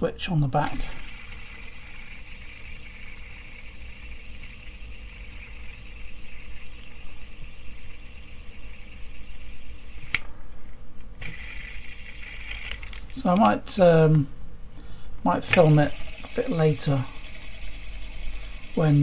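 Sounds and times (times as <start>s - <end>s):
fidget spinner whirring: 0.6s - 10.3s, 11.2s - 13.8s, 15.3s - 19.0s.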